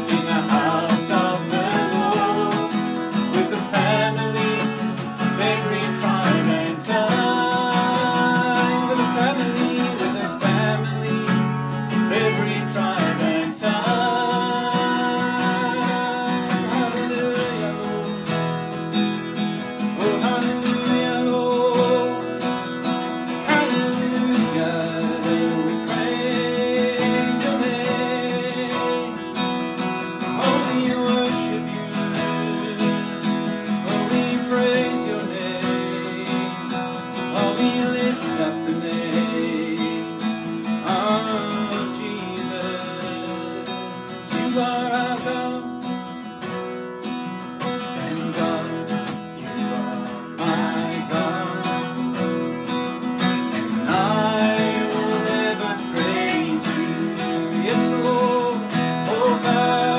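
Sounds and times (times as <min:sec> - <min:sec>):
man singing: 0:00.0 - 0:46.2, 0:47.6 - 0:59.9
acoustic guitar strumming: 0:00.0 - 0:59.9.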